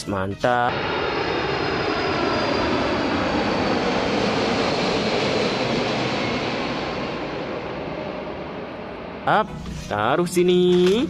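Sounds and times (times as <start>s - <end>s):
faint high turbine whine: 0.7s - 11.0s
jet engines rushing in flight: 0.7s - 11.0s.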